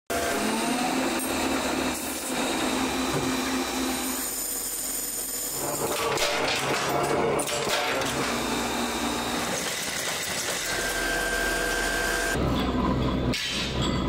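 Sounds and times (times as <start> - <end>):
machinery humming with high whine: 0.1 - 14.0.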